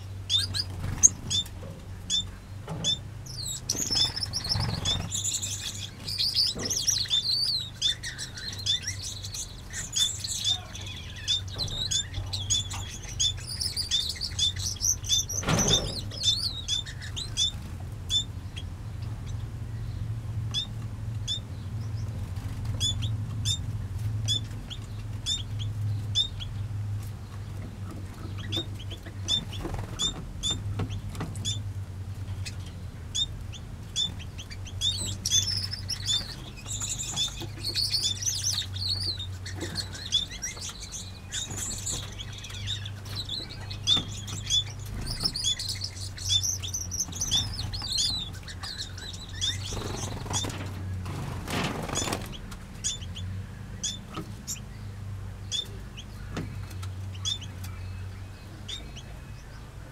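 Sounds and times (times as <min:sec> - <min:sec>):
finches chirping: 0:00.2 - 0:23.7, 0:24.3 - 0:26.6, 0:27.3 - 0:31.7, 0:32.3 - 0:59.8.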